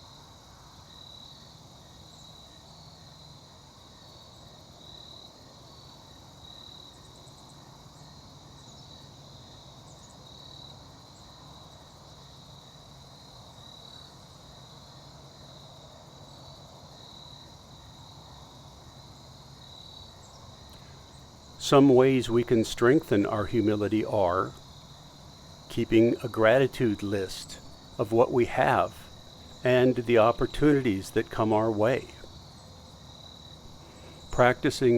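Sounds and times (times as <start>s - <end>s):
faint low background noise: 0.0s - 34.9s
insect chorus trilling: 0.0s - 34.9s.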